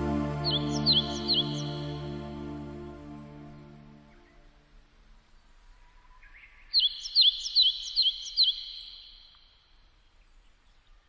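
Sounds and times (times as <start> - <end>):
songbird singing: 0.0 - 4.4, 5.9 - 11.0.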